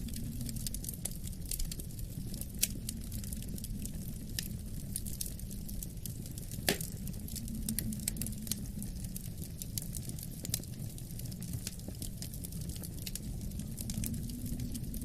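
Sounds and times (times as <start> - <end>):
low rumble of wind: 0.0 - 15.0
wood fire crackling and popping: 0.0 - 15.0.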